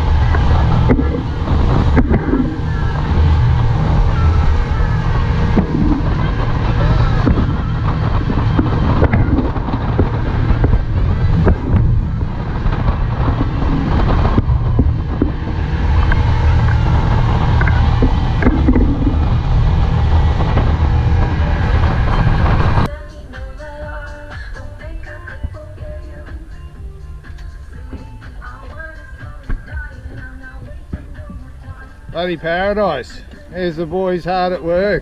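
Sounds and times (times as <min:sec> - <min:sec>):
boat engine drone: 0:00.0 - 0:35.0
water rushing: 0:00.0 - 0:35.0
wind on microphone: 0:00.0 - 0:35.0.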